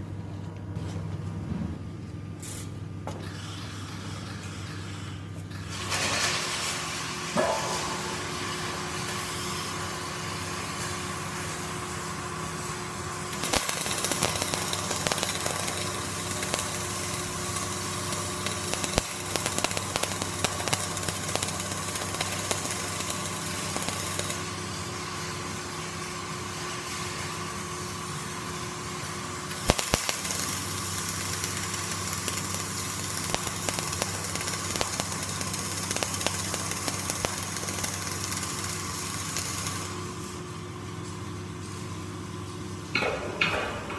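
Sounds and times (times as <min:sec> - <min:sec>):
welding arc crackling: 0:03.2 - 0:41.9
steady machine hum: 0:06.8 - 0:43.9.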